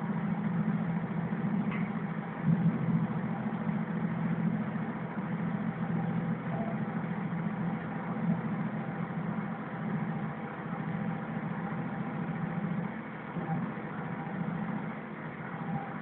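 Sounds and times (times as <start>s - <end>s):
diesel railcar engine drone: 0.0s - 16.0s
train rolling noise: 0.0s - 16.0s.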